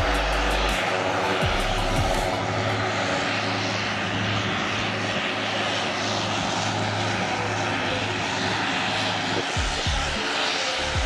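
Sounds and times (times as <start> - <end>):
turboprop engines running: 0.0 - 11.0.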